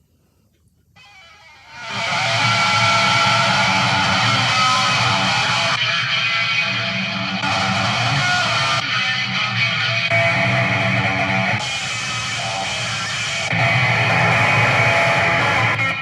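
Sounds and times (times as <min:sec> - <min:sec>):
electric guitar strumming: 0:01.1 - 0:16.0.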